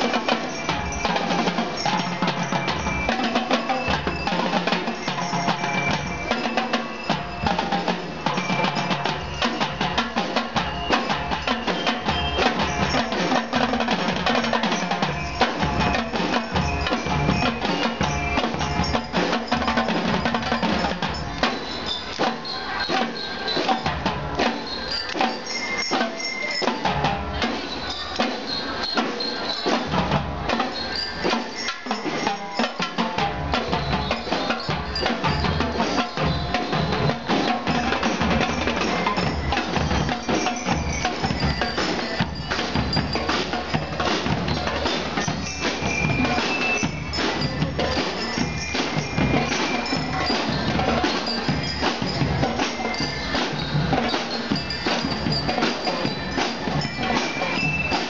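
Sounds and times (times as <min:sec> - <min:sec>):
bell lyres playing a tune: 0:00.0 - 0:58.0
snare and bass drums beat: 0:00.0 - 0:58.0.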